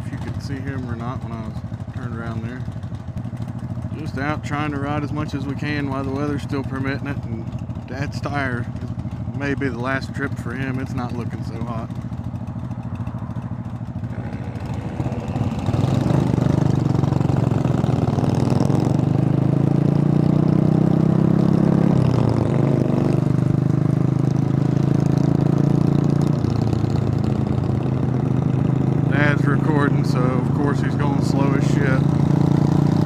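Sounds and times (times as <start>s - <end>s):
motorcycle engine under throttle: 0.0s - 33.0s.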